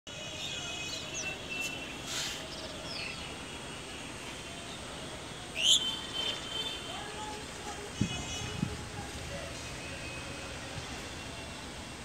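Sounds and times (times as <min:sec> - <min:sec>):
background noise: 0:00.1 - 0:12.0.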